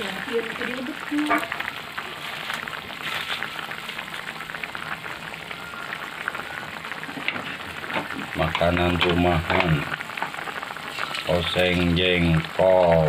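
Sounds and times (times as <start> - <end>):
food frying in oil: 0.0 - 13.0.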